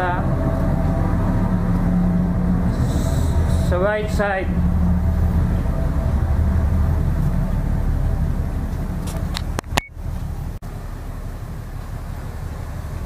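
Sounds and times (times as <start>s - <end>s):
ship engine rumble with hiss: 0.0s - 13.0s.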